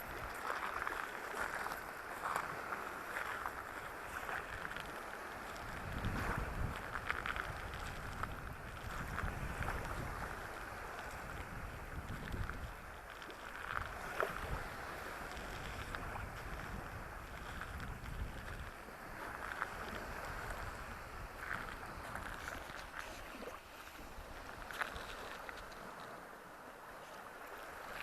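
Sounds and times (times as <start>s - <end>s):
wind buffeting microphone: 0.0s - 23.2s
surf washing onto beach: 0.0s - 28.0s.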